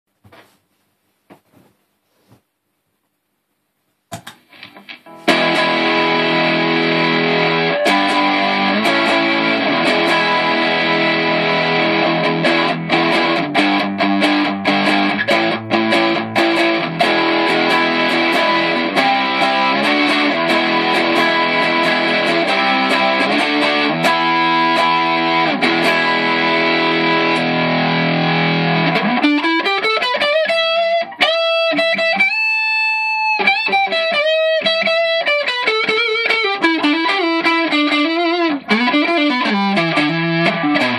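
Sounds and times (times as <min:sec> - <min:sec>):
distorted electric guitar: 0:04.1 - 0:40.9.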